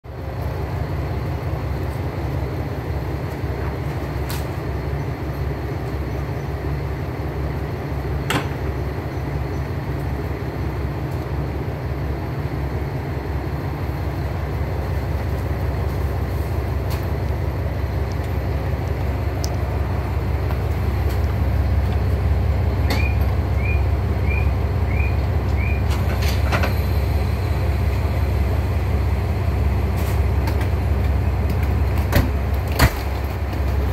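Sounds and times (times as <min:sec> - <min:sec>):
diesel engines idling: 0:00.1 - 0:33.9.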